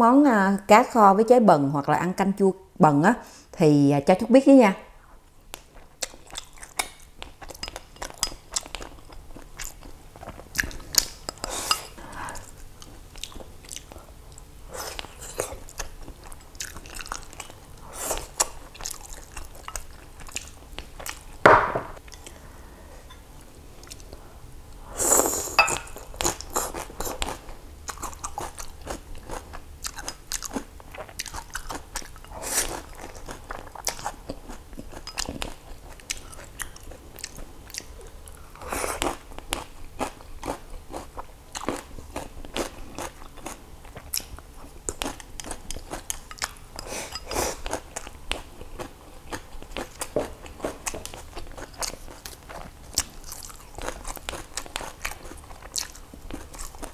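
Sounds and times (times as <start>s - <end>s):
person chewing food: 5.5s - 24.2s, 25.5s - 56.9s.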